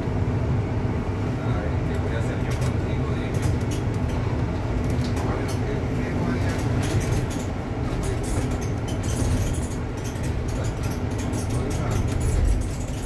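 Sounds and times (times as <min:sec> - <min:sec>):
bus drive hum: 0:00.0 - 0:13.0
light clicks and rattles: 0:01.9 - 0:13.0.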